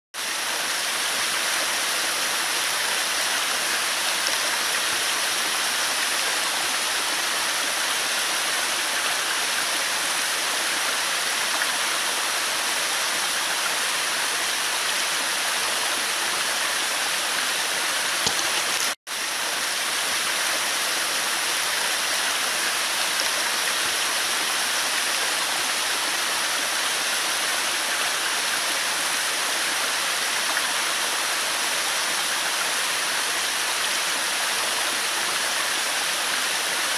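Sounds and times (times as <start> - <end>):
waterfall hissing over rock: 0.2 - 36.9.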